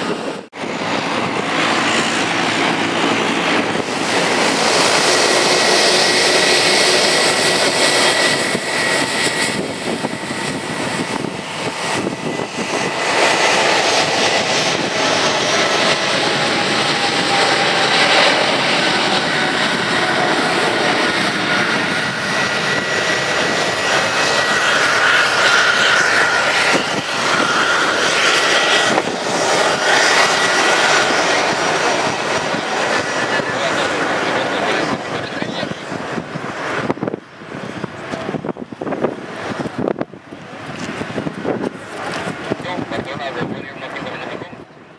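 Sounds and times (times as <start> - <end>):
jet engines at takeoff thrust: 0.0 - 44.9.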